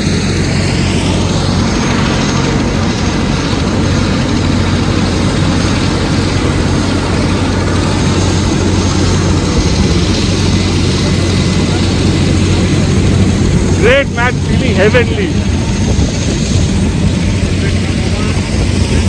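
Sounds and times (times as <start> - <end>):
aircraft engines droning in cabin: 0.0 - 19.0
broad rushing noise: 0.0 - 19.0.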